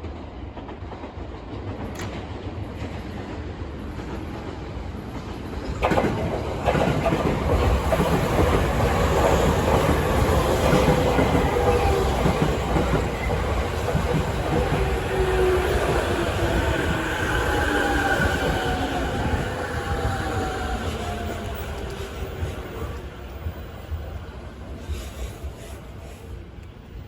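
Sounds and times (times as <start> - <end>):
electric train running rumble: 0.0 - 27.0.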